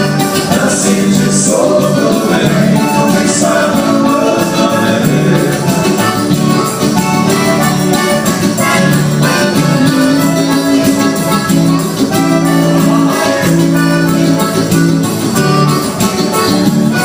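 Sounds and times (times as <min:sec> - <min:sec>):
band playing music: 0:00.0 - 0:17.0.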